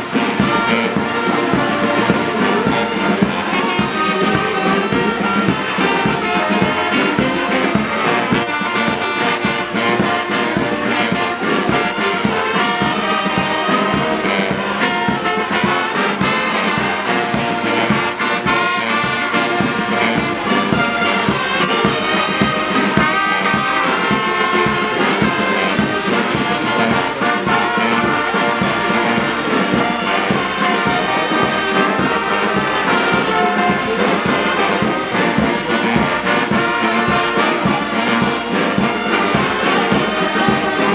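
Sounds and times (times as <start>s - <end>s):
brass band music: 0.0s - 40.9s.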